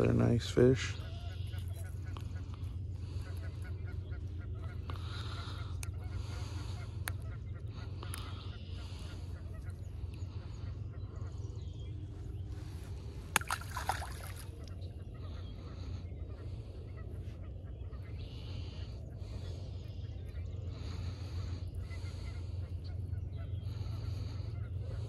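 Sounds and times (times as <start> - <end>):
birds honking: 0.0 - 25.0
steady low rumble: 0.0 - 25.0.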